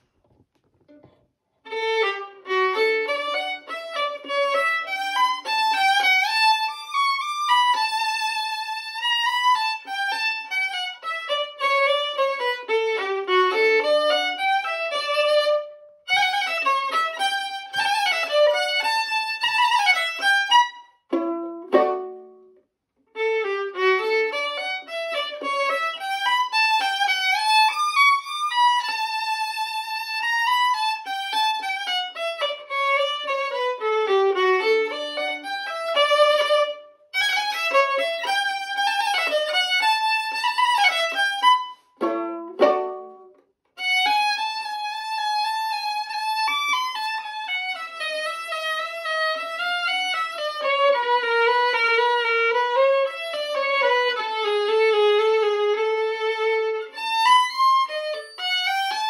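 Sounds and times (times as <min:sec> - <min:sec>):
solo violin melody: 0:00.0 - 0:59.0.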